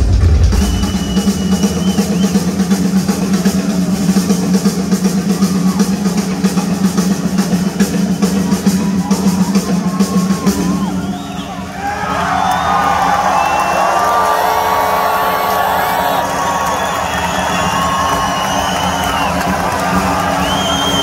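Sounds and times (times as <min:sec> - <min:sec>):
rock drum solo: 0:00.0 - 0:12.1, 0:14.2 - 0:21.0
crowd whistling: 0:00.2 - 0:04.4, 0:05.0 - 0:06.3, 0:08.3 - 0:21.0.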